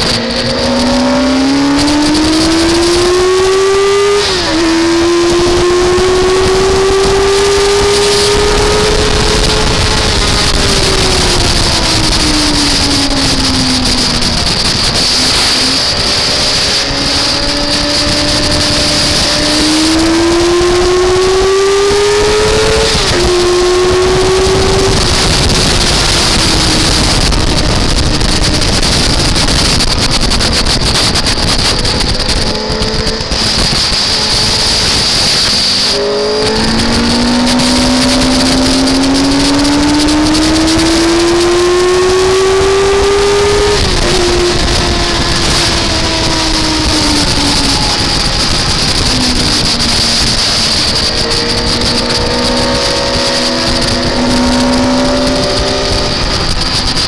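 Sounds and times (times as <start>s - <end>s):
racing car engine accelerating: 0.0s - 57.0s
wind rush: 0.0s - 57.0s.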